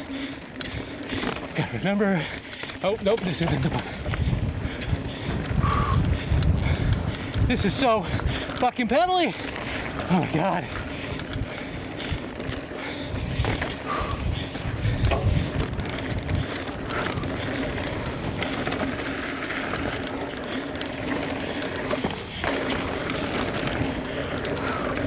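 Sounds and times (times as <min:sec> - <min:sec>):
bike tyres rolling over dirt: 0:00.0 - 0:25.0
chain and frame clatter: 0:01.1 - 0:04.2, 0:07.6 - 0:25.0
wind buffeting microphone: 0:02.2 - 0:08.6, 0:09.4 - 0:25.0.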